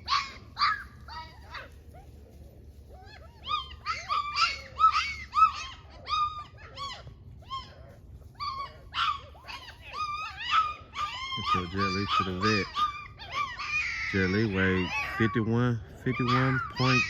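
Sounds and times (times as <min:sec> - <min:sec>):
puppies whining and crying: 0:00.0 - 0:17.0.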